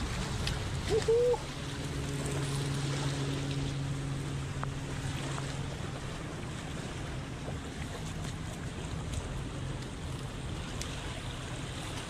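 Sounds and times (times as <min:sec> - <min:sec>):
low steady hum: 0:00.0 - 0:12.0
small waves washing on shore: 0:00.0 - 0:12.0
wind: 0:00.0 - 0:12.0.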